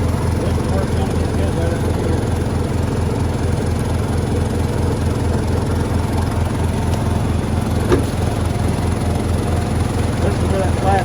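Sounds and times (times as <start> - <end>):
small engine throbbing: 0.0 - 11.0.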